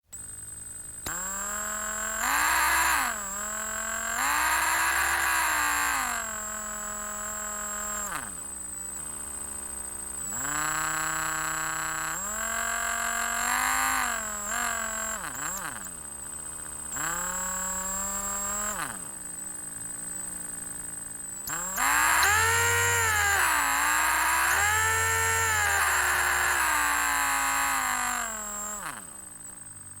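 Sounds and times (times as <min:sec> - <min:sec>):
electric drill motor: 0:00.0 - 0:30.0
faint high whine: 0:00.0 - 0:30.0.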